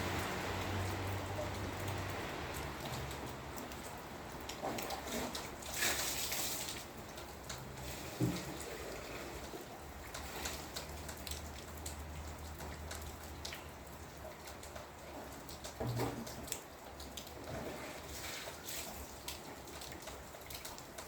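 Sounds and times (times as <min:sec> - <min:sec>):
rain drops ticking on a surface: 0:00.0 - 0:21.0.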